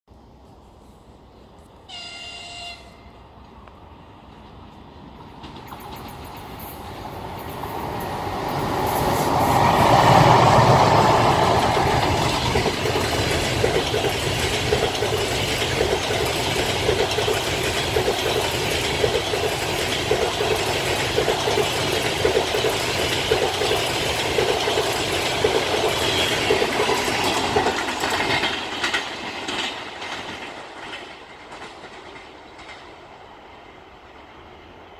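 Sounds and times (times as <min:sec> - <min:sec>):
electric locomotive passing: 0:00.2 - 0:34.9
train wheels clicking over rail joints: 0:03.4 - 0:34.4.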